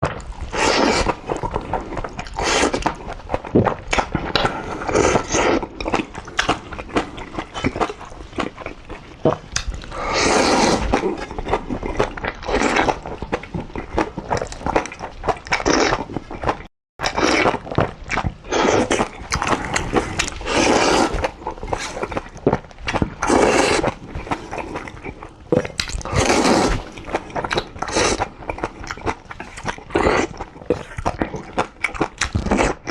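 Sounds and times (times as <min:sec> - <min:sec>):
wet chewing and lip smacking: 0:00.2 - 0:10.0, 0:10.8 - 0:32.9
slurping noodles: 0:00.2 - 0:13.1, 0:17.0 - 0:22.6, 0:23.2 - 0:32.9.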